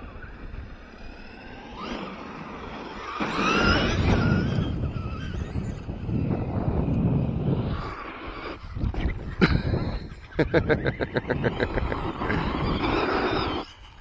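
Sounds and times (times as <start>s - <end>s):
electric toy truck motor whining: 0.0s - 9.3s, 10.3s - 14.0s.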